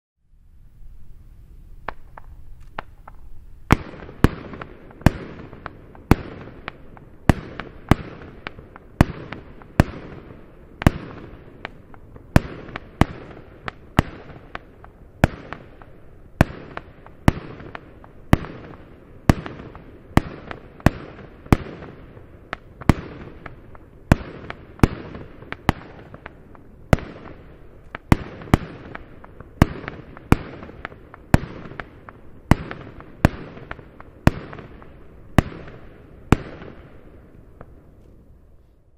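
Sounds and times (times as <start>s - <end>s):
fireworks banging: 1.8s - 38.2s.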